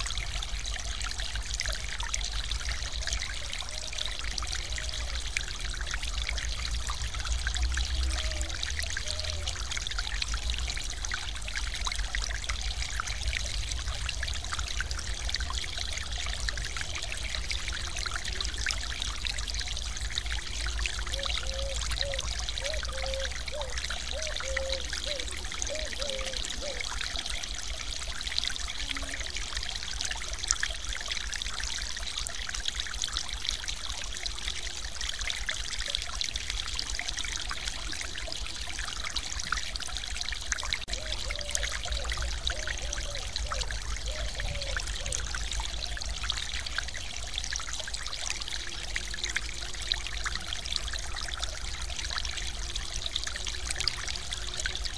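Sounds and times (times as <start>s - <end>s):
water pouring over weir: 0.0s - 54.9s.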